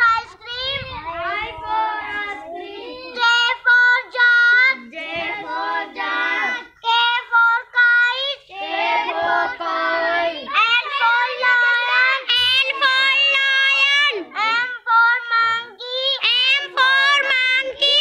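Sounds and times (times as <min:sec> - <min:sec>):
girl chanting sing-song: 0:00.0 - 0:18.0.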